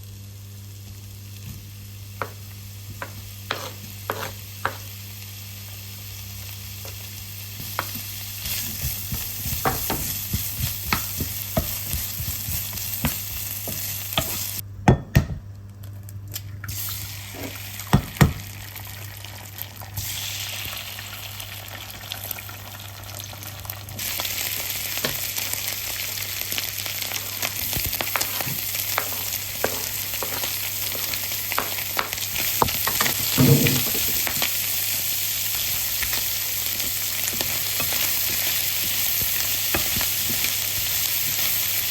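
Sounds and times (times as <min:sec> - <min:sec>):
food sizzling in a frying pan: 0:00.0 - 0:14.6, 0:16.7 - 0:41.9.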